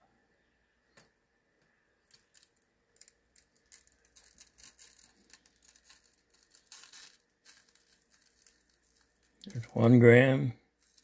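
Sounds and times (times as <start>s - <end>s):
faint light ticking of flakes: 1.0s - 10.0s.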